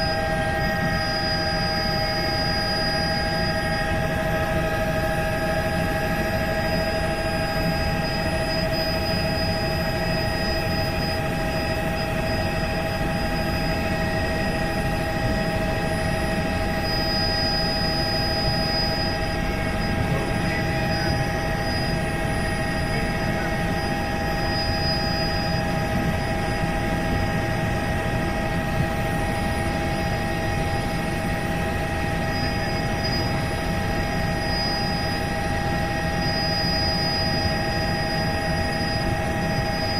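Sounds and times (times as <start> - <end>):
helicopter rotor and engine: 0.0 - 39.9
whining tones: 0.0 - 39.9.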